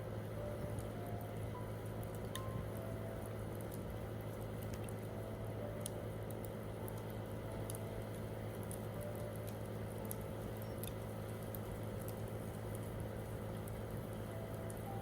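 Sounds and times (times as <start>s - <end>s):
campfire wood crackling: 0.0s - 15.0s
steady low rumble: 0.0s - 15.0s.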